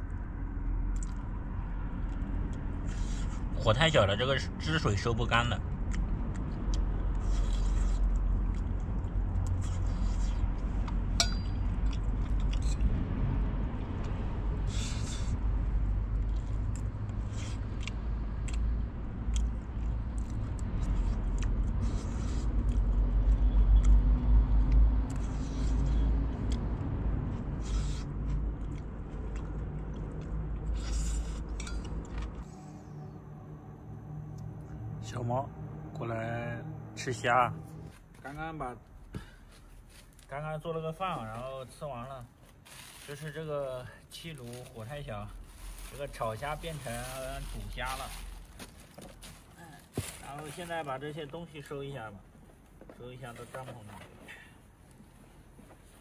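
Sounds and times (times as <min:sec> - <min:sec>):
steady low rumble: 0:00.0 - 0:52.8.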